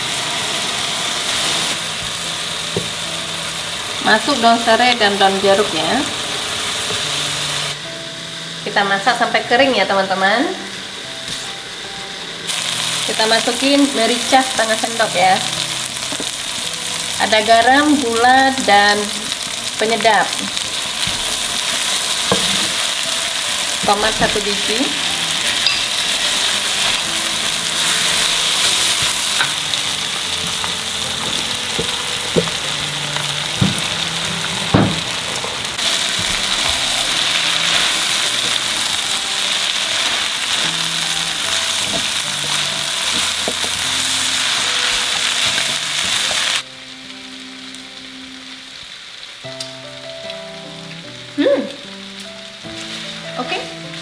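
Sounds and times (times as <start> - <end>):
chicken sizzling in a wok: 0.0 - 54.0.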